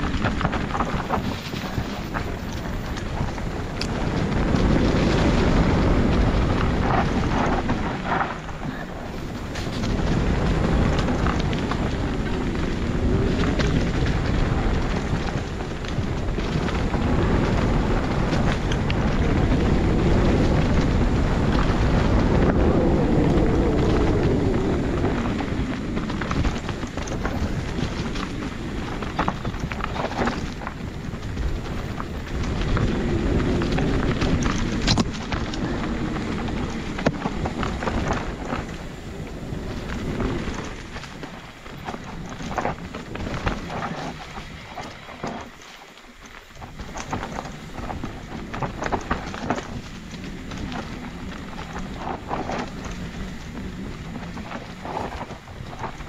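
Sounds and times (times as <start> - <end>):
mountain bike rumbling on dirt: 0.0 - 56.0
wind buffeting microphone: 0.0 - 56.0.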